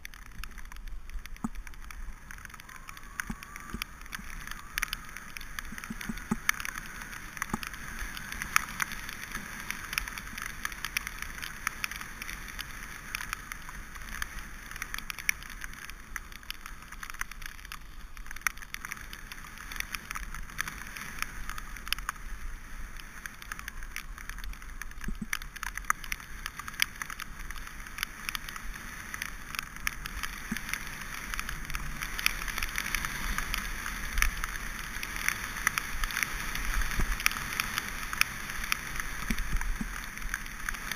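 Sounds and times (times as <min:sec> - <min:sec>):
bike tyres rolling on gravel: 0:00.0 - 0:40.9
stones and bike rattling: 0:00.0 - 0:40.9
wind rumble on microphone: 0:00.0 - 0:40.9.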